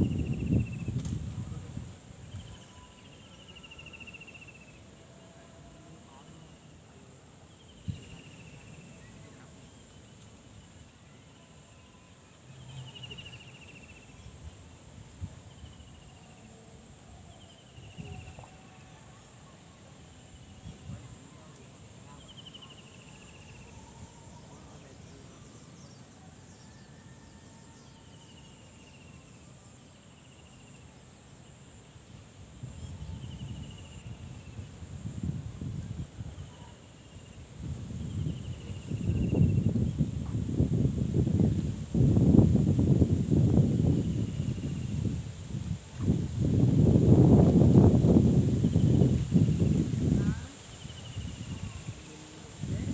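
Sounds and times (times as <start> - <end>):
crickets droning: 0.0 - 52.9.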